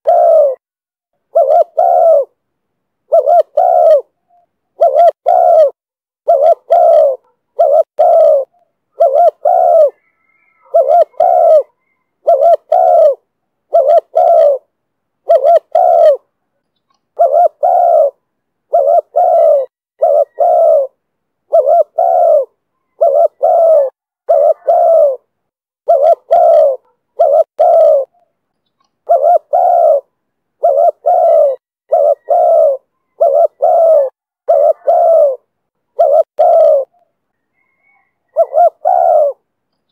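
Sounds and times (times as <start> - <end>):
dove cooing: 0.0 - 0.6, 1.2 - 2.4, 3.0 - 16.4, 17.2 - 28.4, 29.0 - 39.5.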